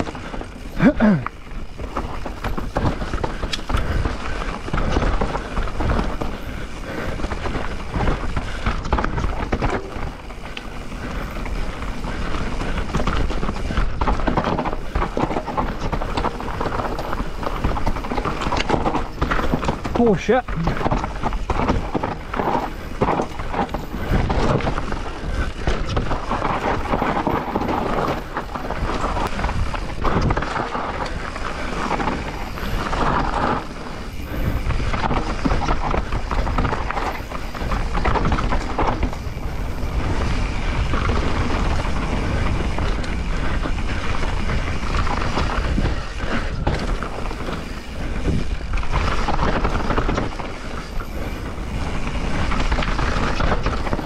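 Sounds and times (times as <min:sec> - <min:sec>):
bike chain and frame rattling: 0:00.0 - 0:54.0
bike tyres rolling over rocks: 0:00.0 - 0:54.0
wind on microphone: 0:01.8 - 0:54.0.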